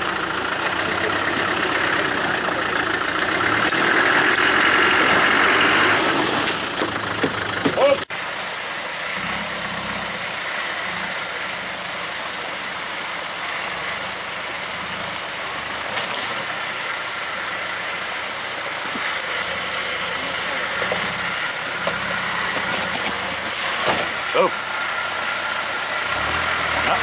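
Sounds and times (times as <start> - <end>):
creek water rushing: 0.0 - 6.8, 7.8 - 27.0
off-road vehicle engine low revs: 0.0 - 27.0.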